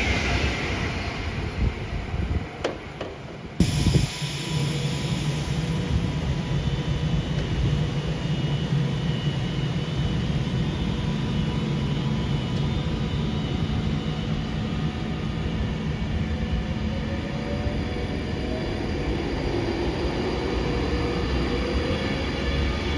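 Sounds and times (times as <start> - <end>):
train engine and rolling drone: 0.0 - 22.9.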